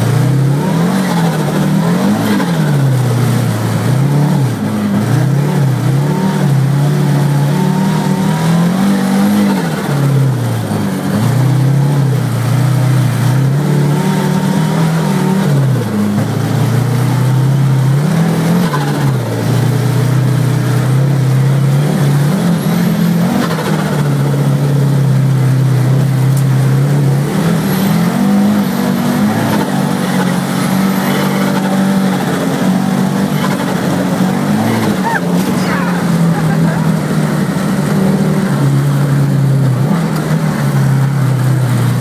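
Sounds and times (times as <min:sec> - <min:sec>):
car engine revving at speed: 0:00.0 - 0:42.0.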